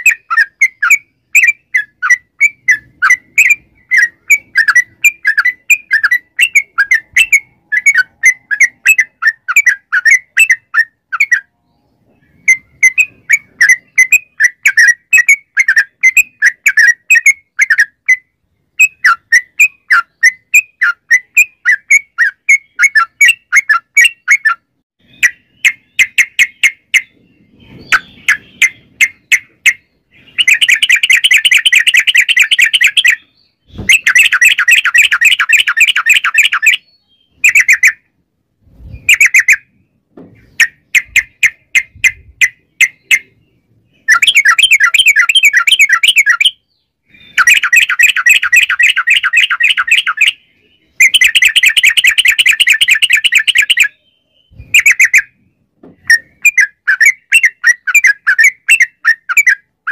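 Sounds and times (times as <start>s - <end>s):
bulbul singing with rattling trills: 0.0s - 38.1s, 38.8s - 59.9s.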